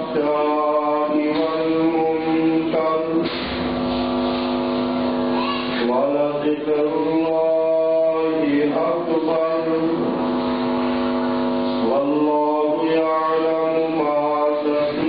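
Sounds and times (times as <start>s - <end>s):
man chanting melodically: 0.0s - 3.4s, 5.4s - 15.0s.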